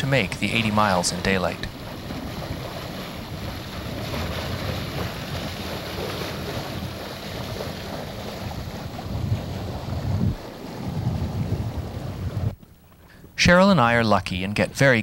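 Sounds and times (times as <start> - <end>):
wind buffeting microphone: 0.0 - 13.6
seawater splashing around boat: 0.0 - 15.0.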